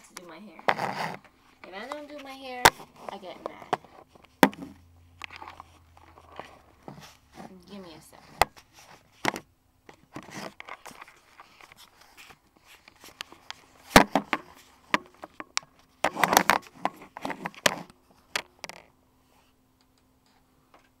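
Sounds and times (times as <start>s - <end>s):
faint steady hum: 0.0s - 21.0s
camera handling rustling and scraping: 0.2s - 18.9s.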